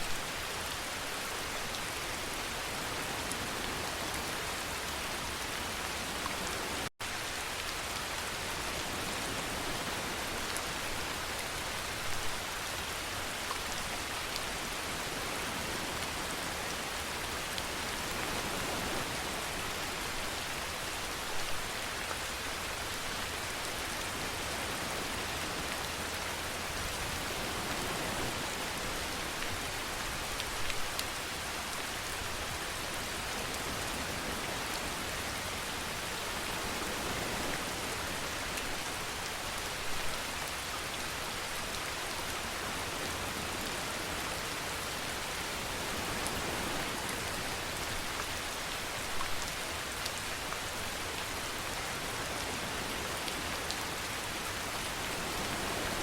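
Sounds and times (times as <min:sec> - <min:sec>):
rain falling on a surface: 0:00.0 - 0:56.0.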